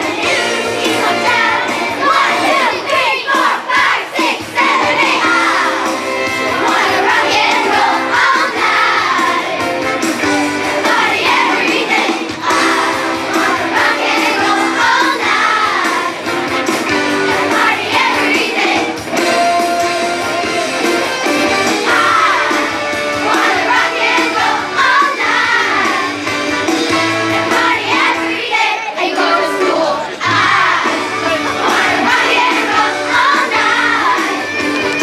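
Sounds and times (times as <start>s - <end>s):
children's chorus singing: 0.0s - 35.0s
musical accompaniment: 0.0s - 35.0s.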